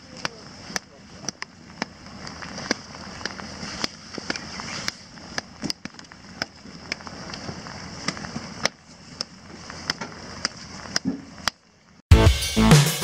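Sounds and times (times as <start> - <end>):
steady rain hiss: 0.0 - 10.9
raindrops tapping near microphone: 0.0 - 12.0.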